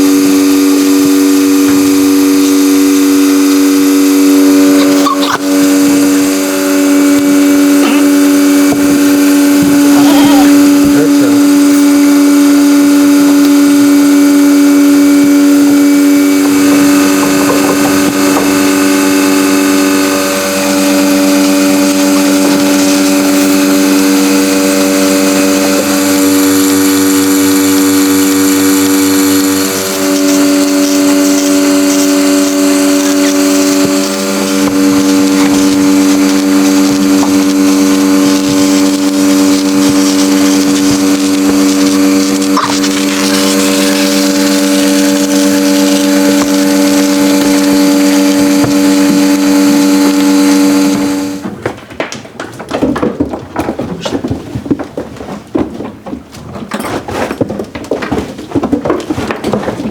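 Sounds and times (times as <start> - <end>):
steady machine hum: 0.0 - 51.6.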